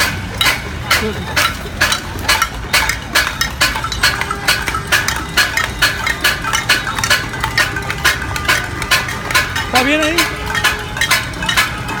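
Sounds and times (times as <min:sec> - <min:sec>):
pots and pans clanging: 0:00.0 - 0:12.0.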